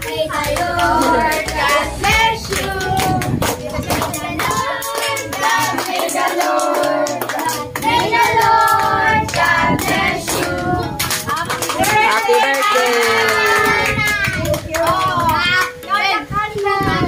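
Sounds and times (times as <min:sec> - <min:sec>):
hand clapping: 0:00.0 - 0:16.7
children and adults singing: 0:00.0 - 0:17.0.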